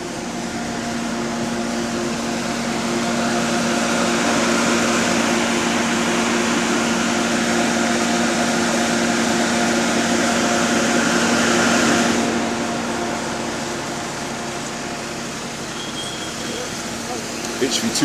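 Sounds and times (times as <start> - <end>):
cooling fan whooshing whir: 0.0 - 18.0
engine hum: 0.0 - 18.0.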